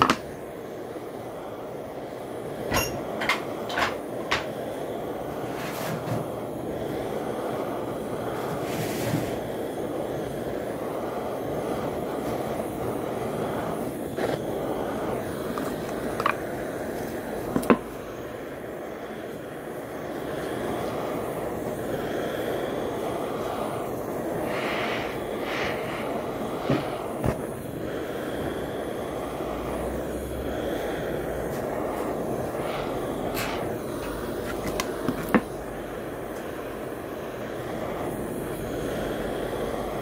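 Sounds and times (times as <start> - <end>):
gas torch roaring: 0.0 - 40.0.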